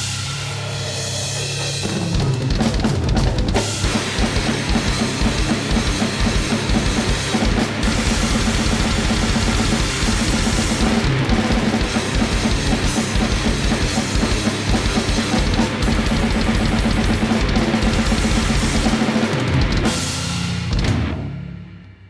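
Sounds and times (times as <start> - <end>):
fast drum kit beat: 0.0 - 21.4.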